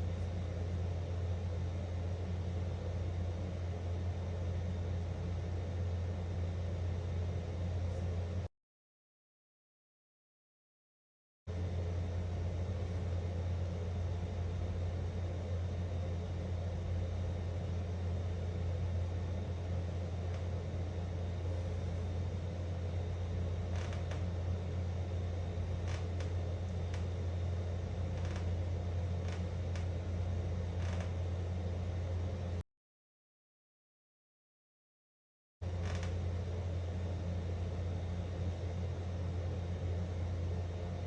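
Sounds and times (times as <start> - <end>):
low mechanical hum with hiss: 0.0 - 8.5, 11.5 - 32.6, 35.6 - 41.0.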